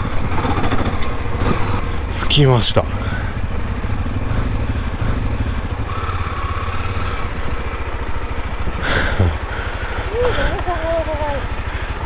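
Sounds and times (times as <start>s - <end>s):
motorcycle engine throbbing: 0.0s - 12.0s.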